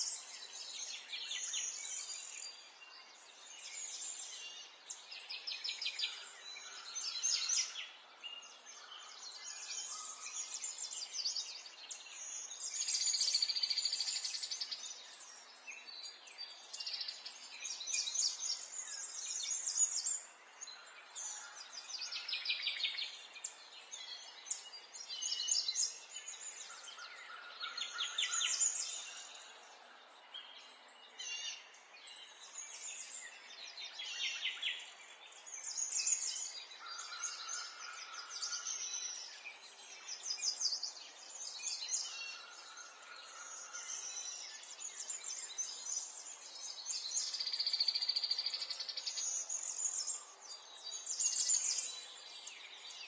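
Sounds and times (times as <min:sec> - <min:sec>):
birds singing and chirping: 0:00.0 - 0:53.0.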